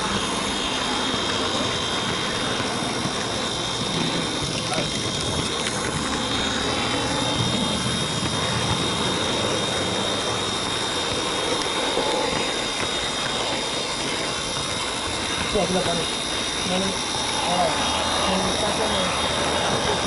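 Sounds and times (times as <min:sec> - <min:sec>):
high motor whine: 0:00.0 - 0:20.0
wheels rattling on rail: 0:00.0 - 0:20.0.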